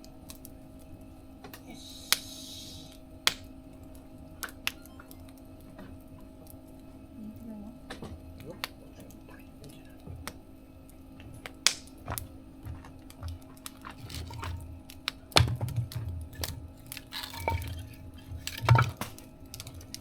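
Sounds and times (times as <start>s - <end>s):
wood fire crackling and popping: 0.0s - 7.1s, 7.8s - 20.0s.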